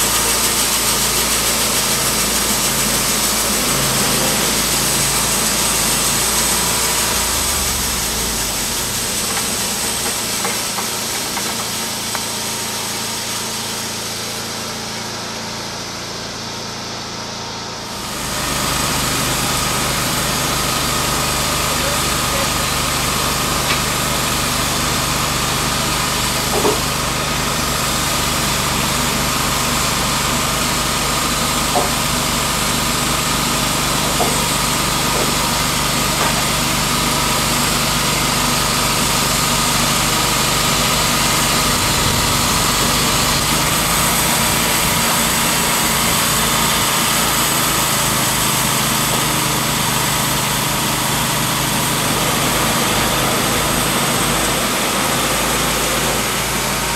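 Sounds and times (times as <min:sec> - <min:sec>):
sawmill engine running: 0:00.0 - 0:56.9.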